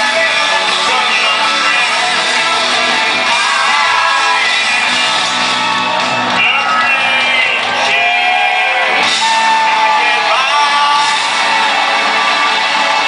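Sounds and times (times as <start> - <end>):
electric guitars: 0.0 - 13.0
lead singer singing: 0.0 - 13.0
live rock band: 0.0 - 13.0.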